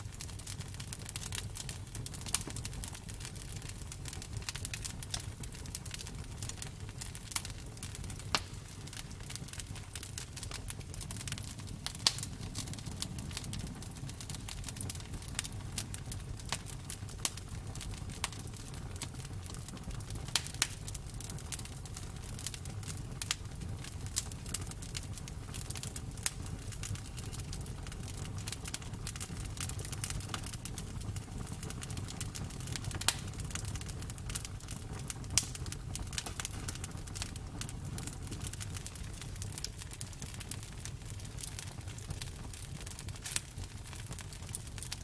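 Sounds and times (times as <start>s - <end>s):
campfire burning: 0.0s - 45.0s
wood crackling and popping: 0.0s - 45.0s.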